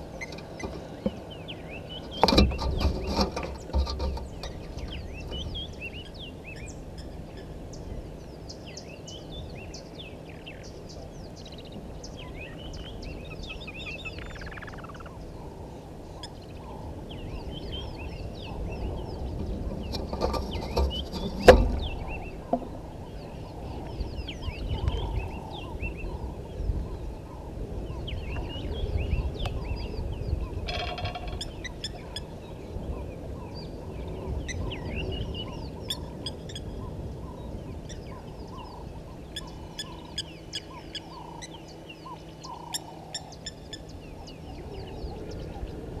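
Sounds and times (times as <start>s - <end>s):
birds chirping and trilling: 0.0s - 46.0s.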